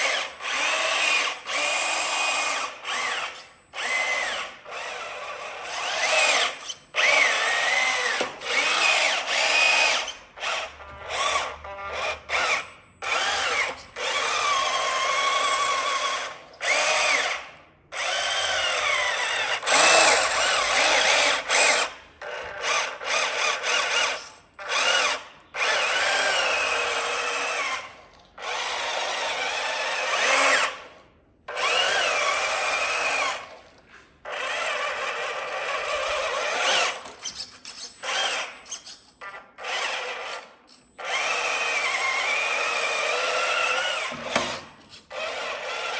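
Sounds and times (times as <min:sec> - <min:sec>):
toy electric motors whining: 0:00.0 - 0:45.9.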